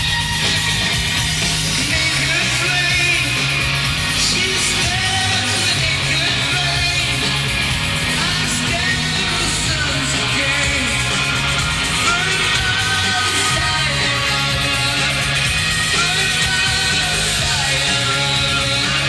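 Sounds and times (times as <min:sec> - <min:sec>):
rock band playing live: 0:00.0 - 0:19.0
person singing: 0:01.7 - 0:07.4, 0:08.0 - 0:19.0.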